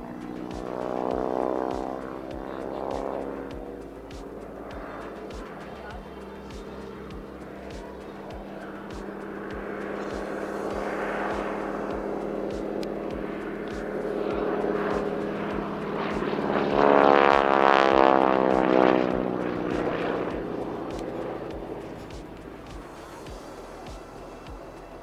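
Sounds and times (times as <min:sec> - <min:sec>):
propeller aircraft flyby: 0:00.0 - 0:25.0.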